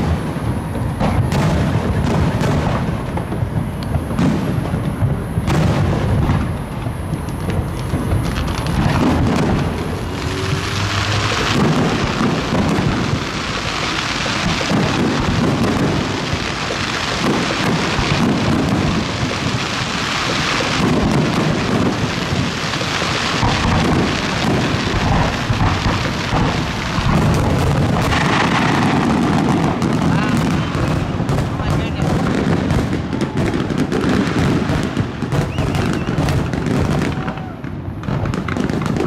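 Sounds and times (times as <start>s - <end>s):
fireworks bursting: 0.0s - 39.0s
sharp firework cracks: 0.0s - 39.0s.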